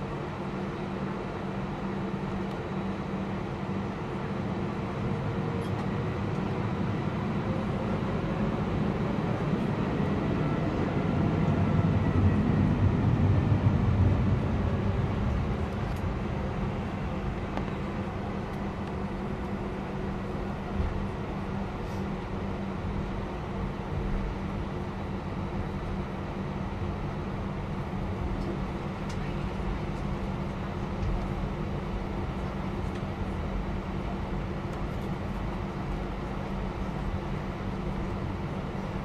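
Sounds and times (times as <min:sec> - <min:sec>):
jet engine hum from cabin: 0:00.0 - 0:39.0.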